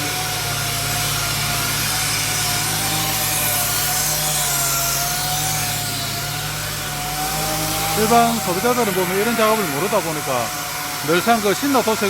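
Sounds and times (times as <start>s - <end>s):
angle grinder sanding steel: 0.0s - 12.0s.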